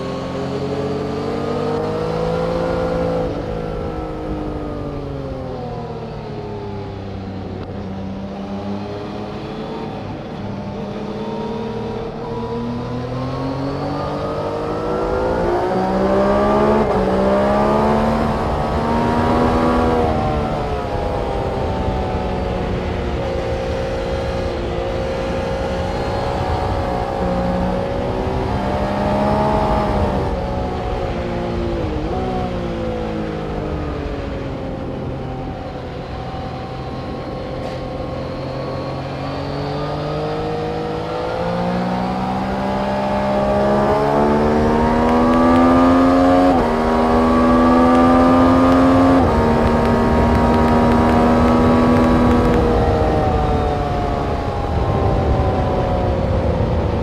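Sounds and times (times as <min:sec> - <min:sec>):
race vehicle engines cornering: 0:00.0 - 0:57.0.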